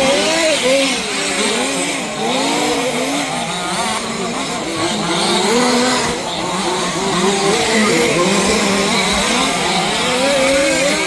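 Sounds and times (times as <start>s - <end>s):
model car engines racing: 0.0s - 11.0s.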